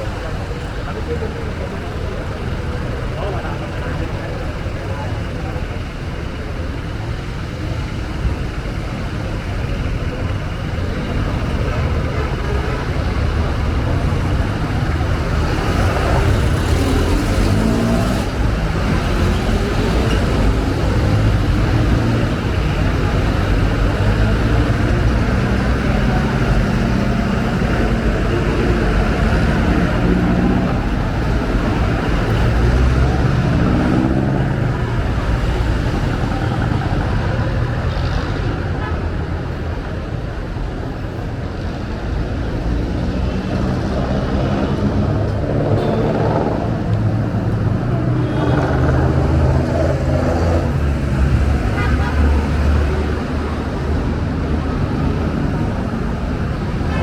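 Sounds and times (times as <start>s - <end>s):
engine pulling away: 0.0s - 39.4s, 40.0s - 56.9s
car and bus engines passing: 0.0s - 57.0s.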